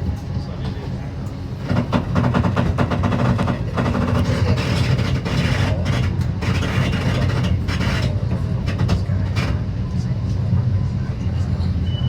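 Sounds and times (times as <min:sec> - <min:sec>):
train rumbling and clacking: 0:00.0 - 0:12.0.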